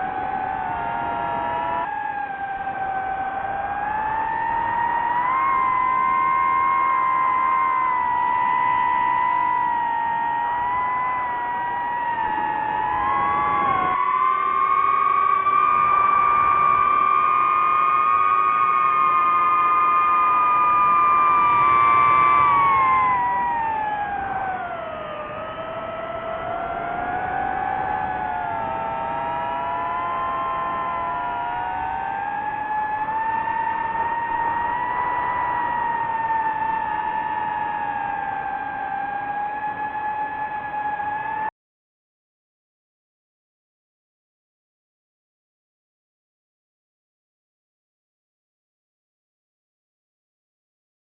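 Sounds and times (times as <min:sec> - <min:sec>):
drone propellers whining: 0:00.0 - 0:41.5.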